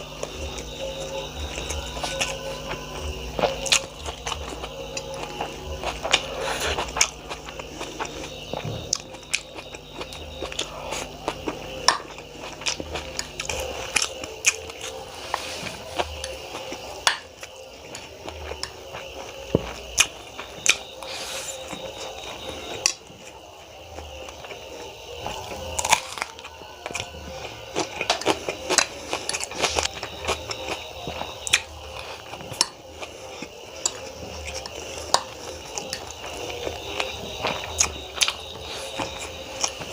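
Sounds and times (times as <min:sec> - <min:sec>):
chewing noodles: 0:00.0 - 0:39.9.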